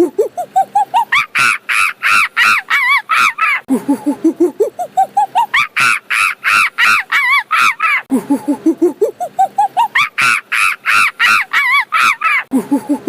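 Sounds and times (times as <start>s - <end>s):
monkey screaming: 0.0s - 3.7s, 4.7s - 8.1s, 9.0s - 12.5s
monkey hooting: 0.0s - 13.0s.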